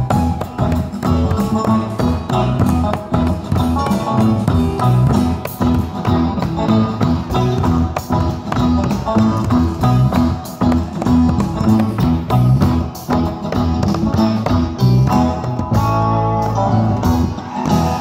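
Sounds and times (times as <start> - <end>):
bass guitar: 0.0 - 18.0
drum kit beat: 0.0 - 18.0
electric guitar: 0.0 - 18.0.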